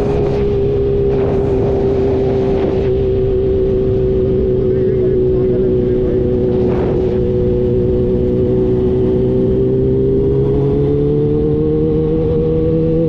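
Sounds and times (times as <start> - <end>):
low wind: 0.0 - 13.0
motorcycle engine running: 0.0 - 13.0
road rumble: 0.0 - 13.0.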